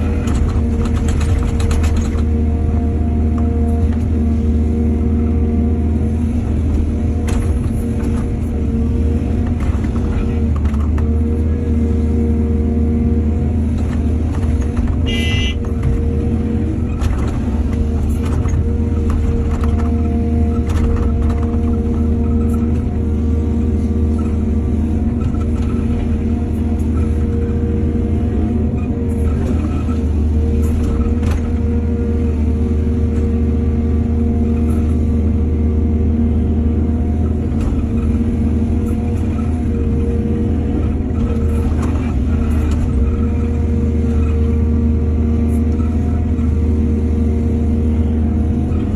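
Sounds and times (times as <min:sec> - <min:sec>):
heavy diesel machinery running: 0:00.0 - 0:48.9.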